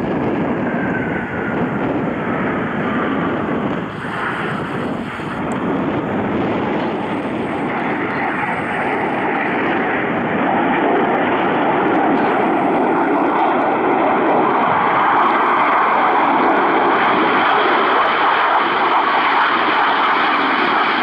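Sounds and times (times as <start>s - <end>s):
jet roar with whine: 0.0s - 21.0s.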